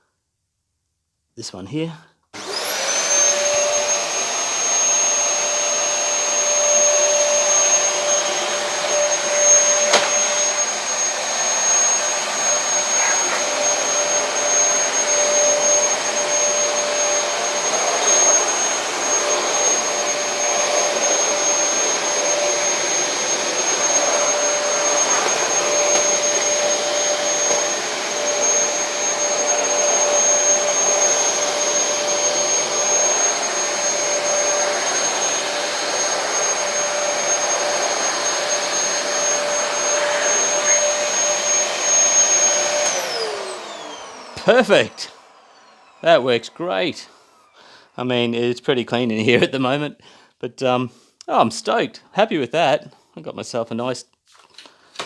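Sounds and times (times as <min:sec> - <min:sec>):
vacuum cleaner motor whine: 0:02.4 - 0:48.3.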